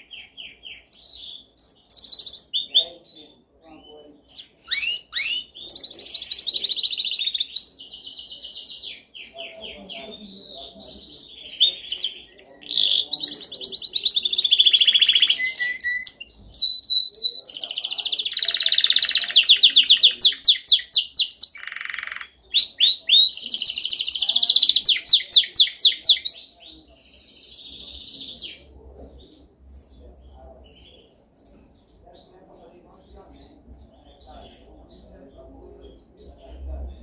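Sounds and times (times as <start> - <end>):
canary singing trills: 0.0 - 37.0.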